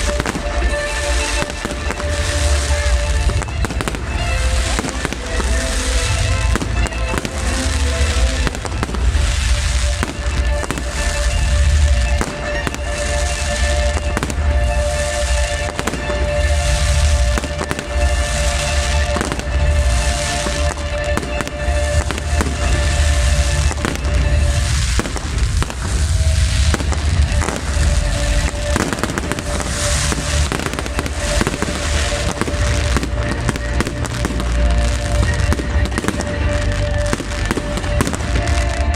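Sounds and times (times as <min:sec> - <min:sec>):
fireworks booming and crackling: 0:00.0 - 0:38.9
music with long held notes: 0:00.0 - 0:38.9.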